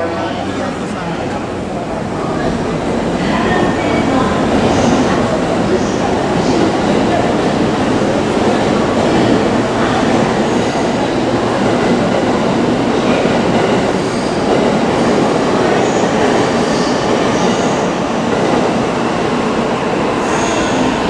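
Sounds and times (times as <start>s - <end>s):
railway rumbling: 0.0s - 21.0s.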